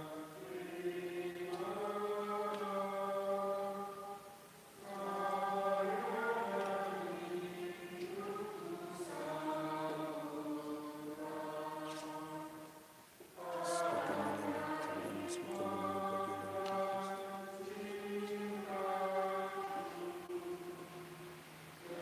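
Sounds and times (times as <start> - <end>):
voices singing a slow hymn: 0.0 - 22.0.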